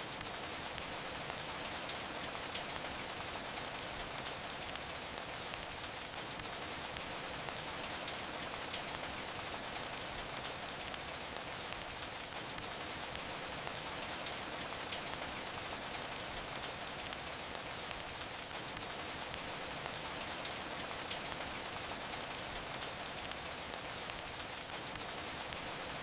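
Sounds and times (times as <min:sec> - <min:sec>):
steady rain hiss: 0:00.0 - 0:26.0
wood fire crackling and popping: 0:00.0 - 0:26.0.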